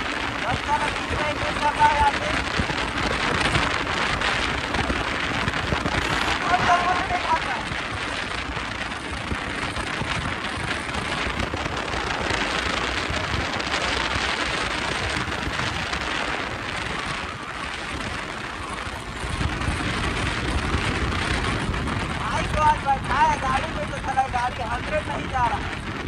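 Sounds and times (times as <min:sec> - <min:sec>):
motorcycle engine: 0:00.0 - 0:26.0
road rumble: 0:00.0 - 0:26.0
wind rushing over microphone: 0:00.0 - 0:26.0.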